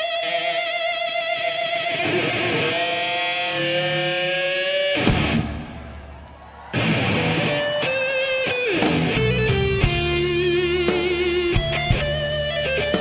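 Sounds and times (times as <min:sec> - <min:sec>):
electric guitar solo: 0:00.0 - 0:13.0
rock band playing: 0:00.0 - 0:13.0.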